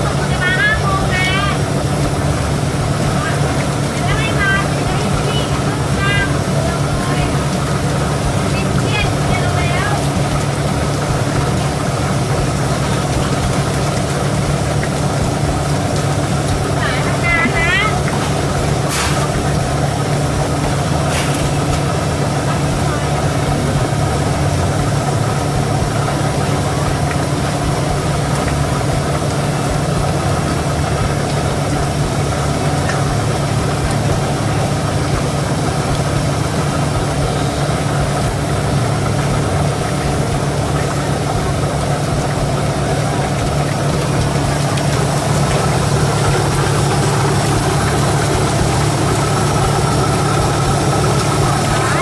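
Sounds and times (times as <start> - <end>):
faint voices: 0.0 - 52.0
machine humming: 0.0 - 52.0.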